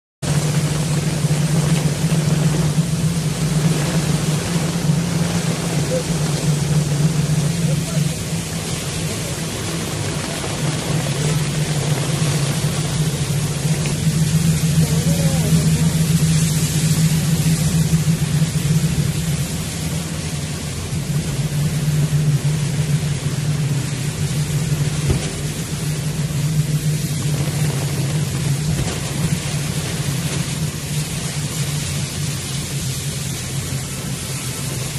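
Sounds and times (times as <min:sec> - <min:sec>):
heavy rain and tyre spray: 0:00.2 - 0:34.9
vehicle engine drone: 0:00.2 - 0:34.9.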